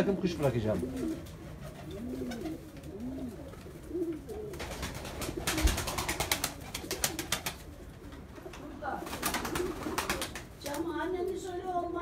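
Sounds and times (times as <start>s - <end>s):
pigeons cooing: 0.0s - 10.5s.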